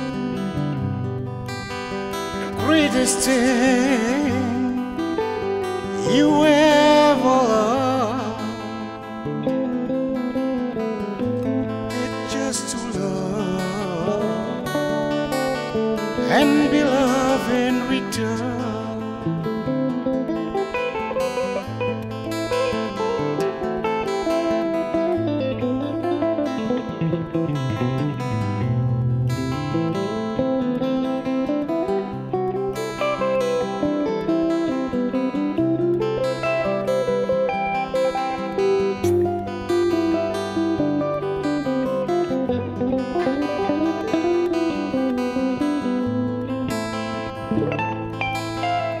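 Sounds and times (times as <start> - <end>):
guitar melody with sliding notes: 0.0 - 49.0.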